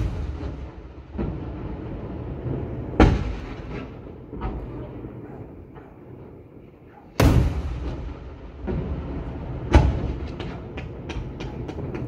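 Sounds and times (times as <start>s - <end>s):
firework crackles: 0.0s - 12.0s
firework shells exploding: 0.0s - 12.0s.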